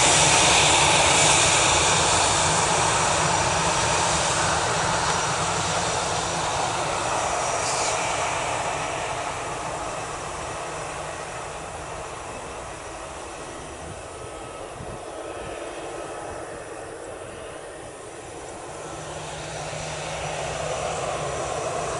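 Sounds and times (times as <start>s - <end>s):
jet engines at low thrust: 0.0s - 21.9s.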